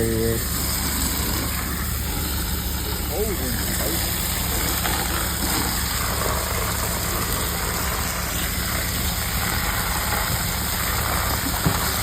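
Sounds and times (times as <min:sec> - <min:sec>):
dump truck engine idling: 0:00.0 - 0:12.0
water spraying hiss: 0:00.0 - 0:12.0.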